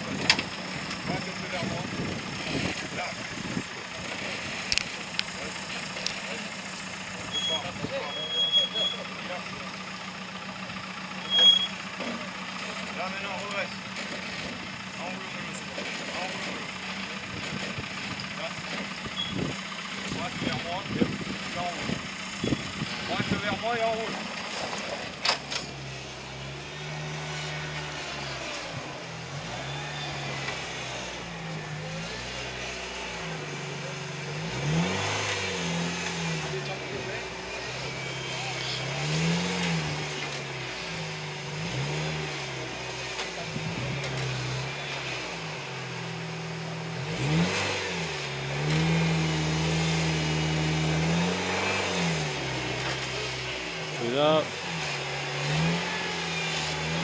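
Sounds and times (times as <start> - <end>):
off-road vehicle engine at low revs: 0.0 - 57.0.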